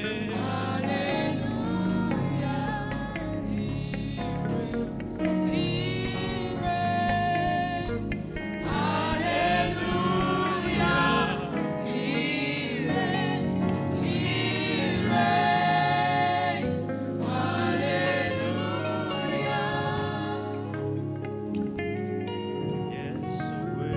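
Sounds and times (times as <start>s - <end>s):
instrumental backing: 0.0s - 23.9s
voices singing gospel: 0.0s - 23.9s.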